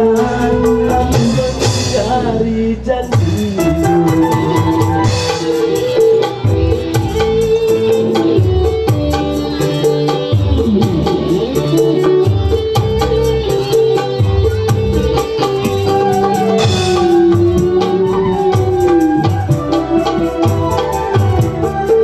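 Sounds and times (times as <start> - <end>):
bass guitar: 0.0 - 22.0
electric guitars: 0.0 - 22.0
steady beat: 0.0 - 22.0.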